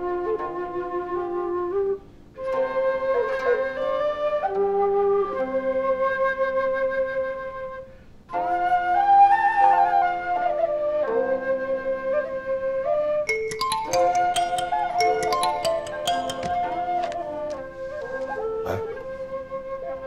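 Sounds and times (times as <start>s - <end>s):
bamboo flutes playing slow melody: 0.0s - 20.0s.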